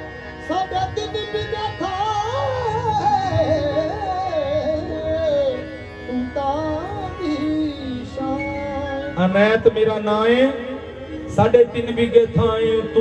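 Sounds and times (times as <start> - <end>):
harmoniums sustained notes: 0.0 - 13.0
man singing devotional song: 0.0 - 13.0.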